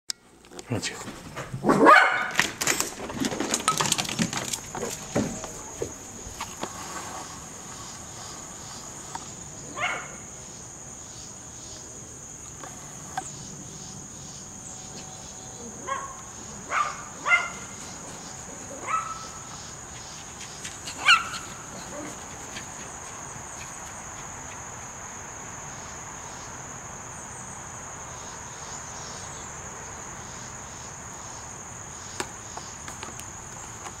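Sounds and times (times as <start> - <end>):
high-pitched insect chorus: 3.6 - 34.0.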